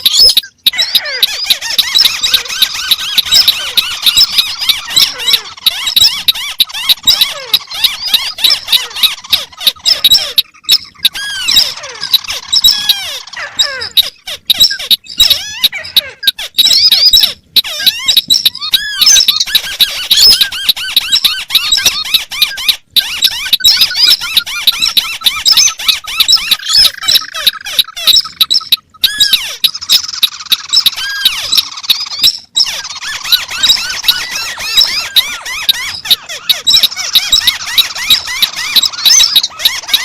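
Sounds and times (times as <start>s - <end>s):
crakes chirping: 0.0s - 40.0s.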